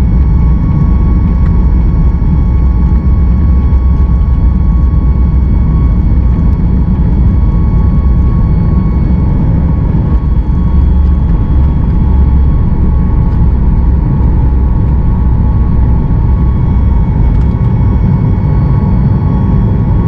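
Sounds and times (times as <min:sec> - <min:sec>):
runway rumble: 0:00.0 - 0:18.8
jet engines roaring: 0:00.0 - 0:20.0
whining engine tones: 0:00.0 - 0:20.0.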